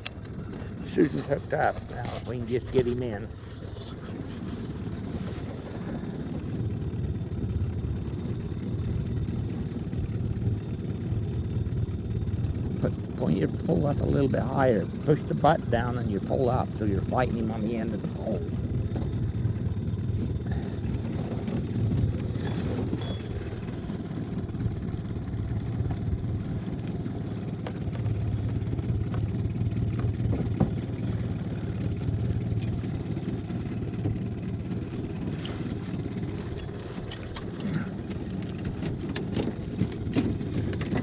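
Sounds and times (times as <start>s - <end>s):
outboard motor droning: 0.0s - 41.0s.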